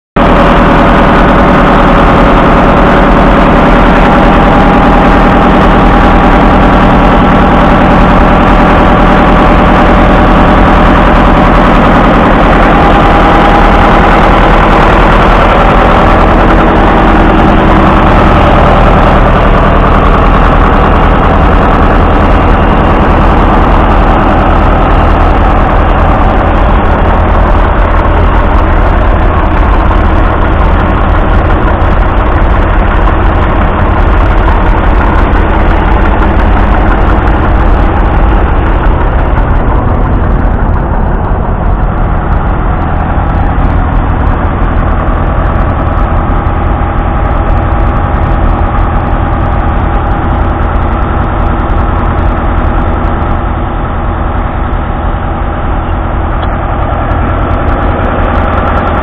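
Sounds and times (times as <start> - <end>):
diesel engine idling: 0.2 - 59.0.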